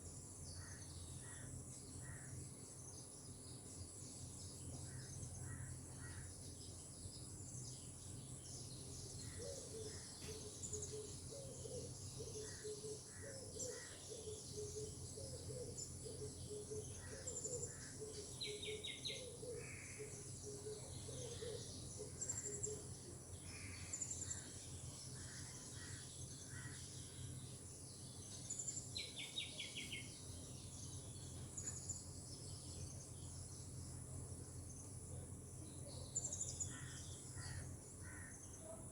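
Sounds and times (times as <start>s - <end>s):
birds chirping: 7.5s - 38.9s.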